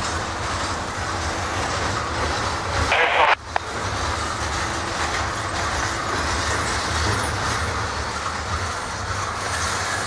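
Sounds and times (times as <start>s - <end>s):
train wheels rolling on rails: 0.0s - 10.0s.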